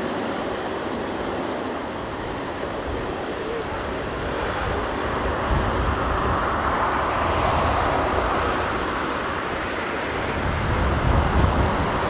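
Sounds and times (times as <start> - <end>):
jet engines rushing: 0.0 - 12.0
wind rumble on microphone: 2.3 - 12.0.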